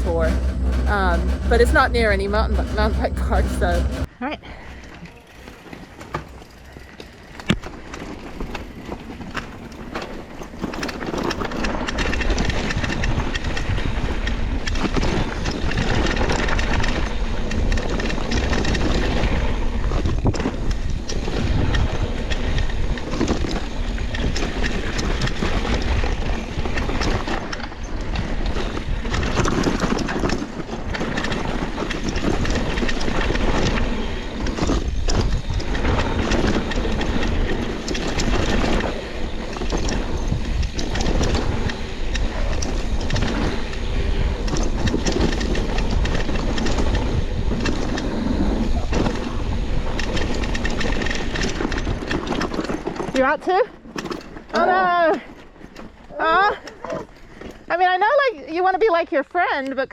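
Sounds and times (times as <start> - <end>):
wind buffeting microphone: 0.0 - 5.6, 6.3 - 59.0
bike rattling over rough trail: 4.7 - 59.5.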